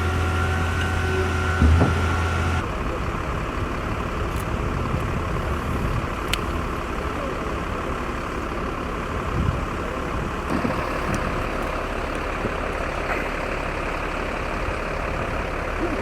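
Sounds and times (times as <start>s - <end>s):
heavy engine rumbling: 0.0s - 16.0s.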